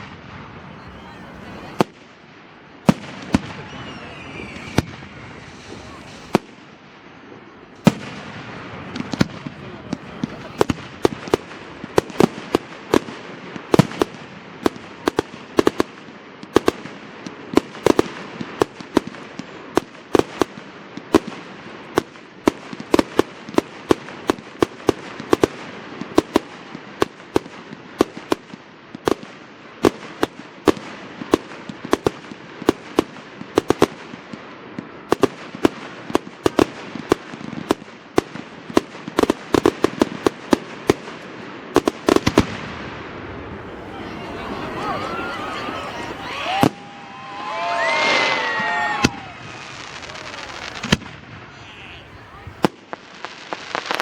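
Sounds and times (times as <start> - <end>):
fireworks bangs: 0.0 - 54.0
fireworks crackle: 0.0 - 54.0.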